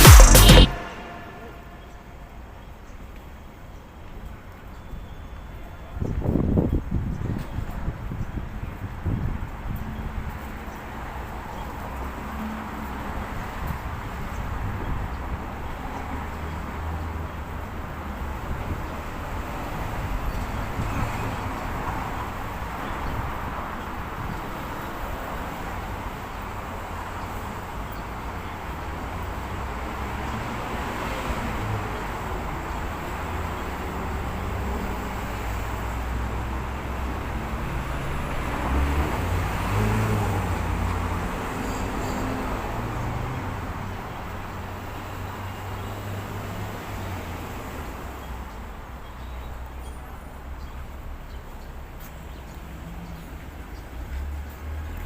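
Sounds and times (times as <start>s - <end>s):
street traffic rumble: 0.8s - 55.0s.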